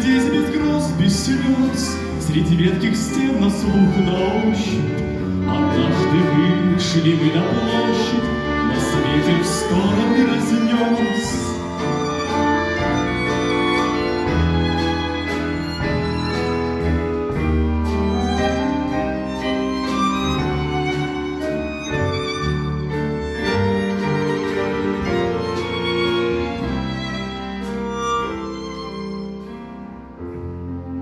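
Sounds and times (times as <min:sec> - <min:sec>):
bowed string melody: 0:00.0 - 0:31.0
sustained bass notes: 0:00.0 - 0:31.0.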